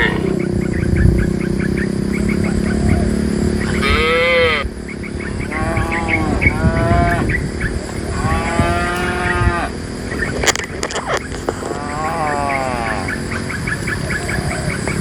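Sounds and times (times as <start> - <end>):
cows mooing: 0.0 - 0.5, 2.1 - 10.2, 10.8 - 15.0.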